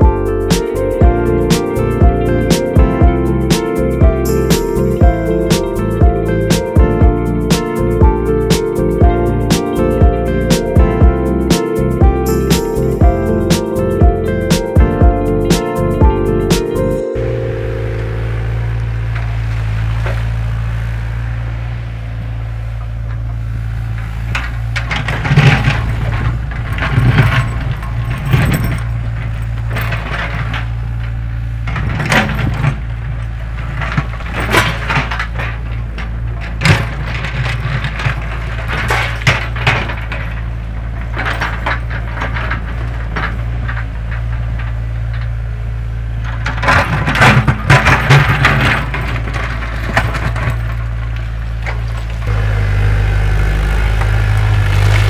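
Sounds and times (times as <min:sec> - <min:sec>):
excavator engine running: 0:00.0 - 0:55.0
rocks and soil clattering: 0:00.0 - 0:55.0.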